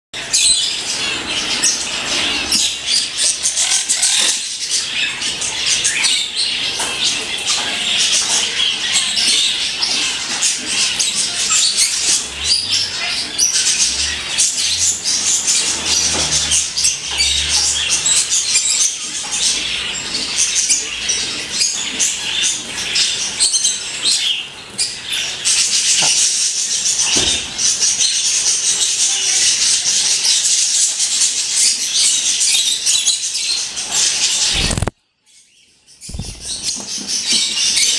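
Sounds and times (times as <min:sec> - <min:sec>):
cage birds chirping: 0:00.2 - 0:37.9.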